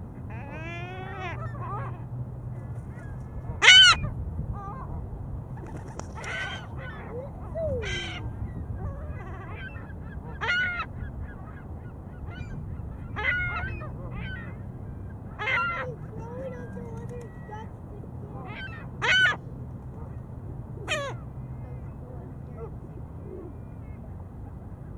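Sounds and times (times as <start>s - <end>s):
low steady rumble: 0.0s - 24.9s.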